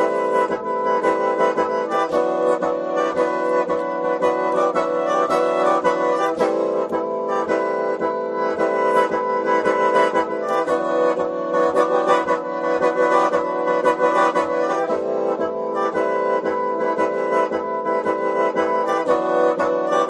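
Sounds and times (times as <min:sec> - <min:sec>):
bamboo mouth organ playing: 0:00.0 - 0:20.0.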